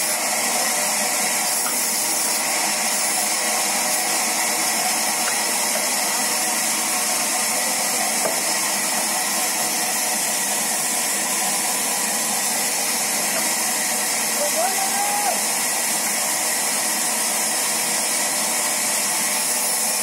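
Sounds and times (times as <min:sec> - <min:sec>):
band saw whirring: 0:00.0 - 0:20.0.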